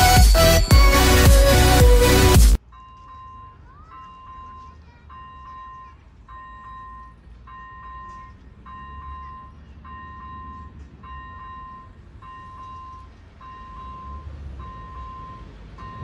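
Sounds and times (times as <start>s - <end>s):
level crossing warning tone: 0.0s - 16.0s.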